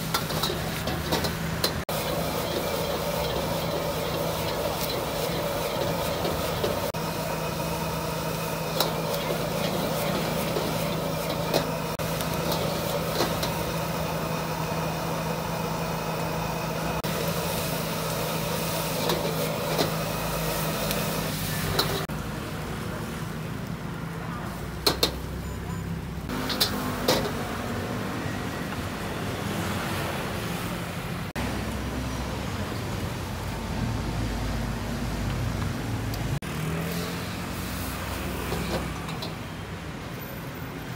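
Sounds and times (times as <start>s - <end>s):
gas burner roaring: 0.0s - 40.2s.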